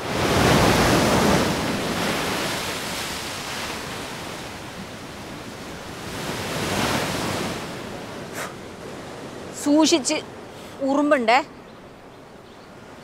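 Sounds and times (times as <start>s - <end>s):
wind gusting: 0.0s - 13.0s.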